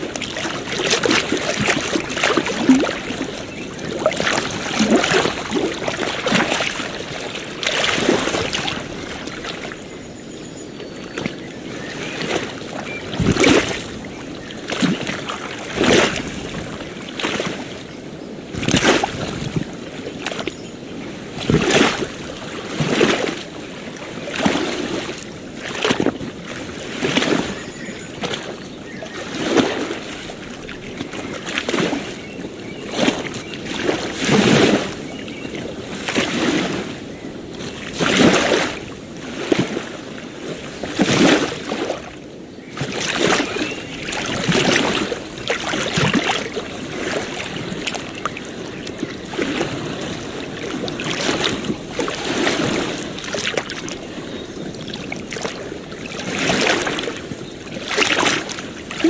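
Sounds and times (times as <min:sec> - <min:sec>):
small ocean waves lapping: 0:00.0 - 0:59.0.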